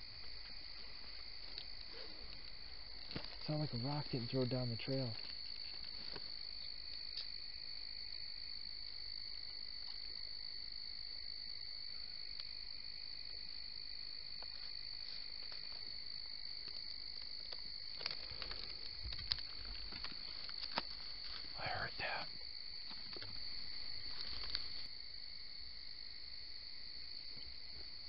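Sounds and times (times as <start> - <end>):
insects trilling: 0.0 - 28.0
low insect drone: 0.0 - 28.0.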